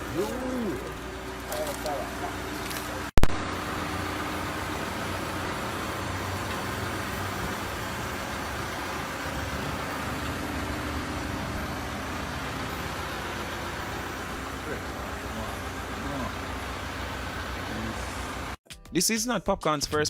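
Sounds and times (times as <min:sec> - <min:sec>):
construction machinery engine idling: 0:00.0 - 0:18.6.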